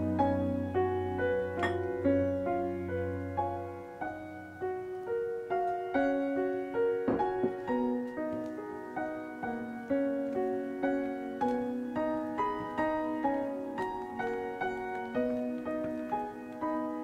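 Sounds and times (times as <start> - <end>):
soft piano notes: 0.0 - 17.0.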